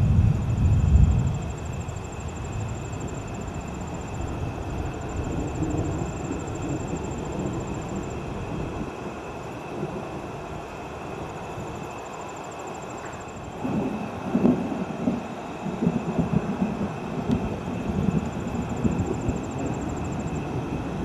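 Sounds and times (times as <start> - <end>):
distant thunder rumbling: 0.0 - 21.0.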